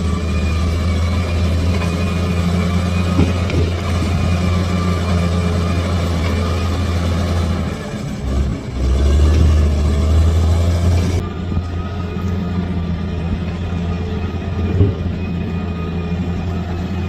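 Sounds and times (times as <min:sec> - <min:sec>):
bulldozer diesel engine droning: 0:00.0 - 0:17.0.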